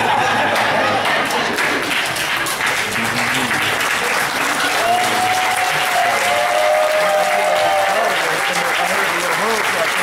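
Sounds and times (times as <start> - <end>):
congregation applauding: 0.1 - 10.0.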